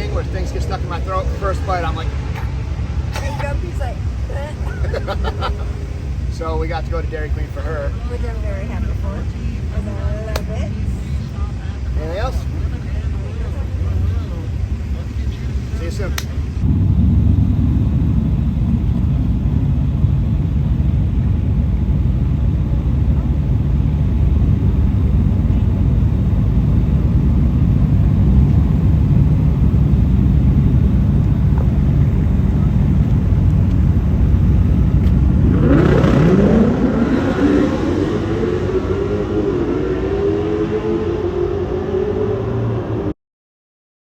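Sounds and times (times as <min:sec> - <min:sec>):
car engine rumbling and revving: 0:00.0 - 0:43.1.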